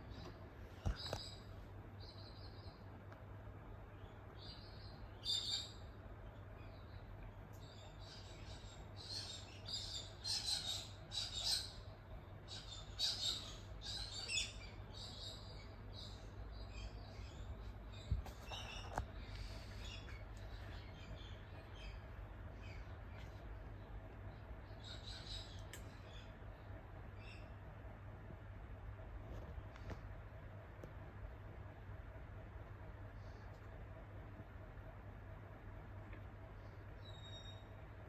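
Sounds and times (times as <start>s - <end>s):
ceiling fan humming: 0.0s - 38.0s.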